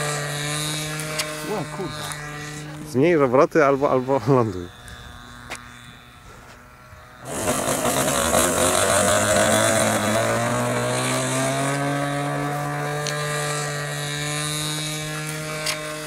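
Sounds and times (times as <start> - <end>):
faint distant buzz: 0.0 - 16.0
model plane engine at high throttle: 0.0 - 16.0.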